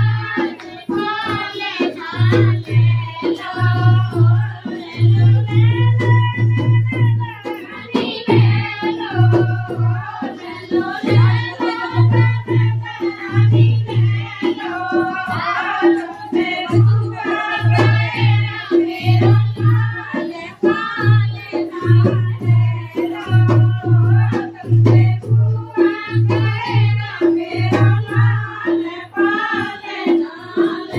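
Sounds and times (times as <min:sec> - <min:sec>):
drum beating steady rhythm: 0:00.0 - 0:30.9
women singing folk song: 0:00.0 - 0:30.9.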